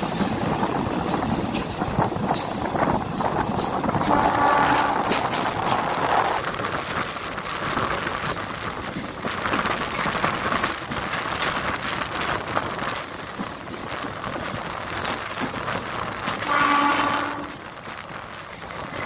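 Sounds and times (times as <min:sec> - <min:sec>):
train wheels clattering on rails: 0:00.0 - 0:19.0
wind on microphone: 0:00.0 - 0:19.0.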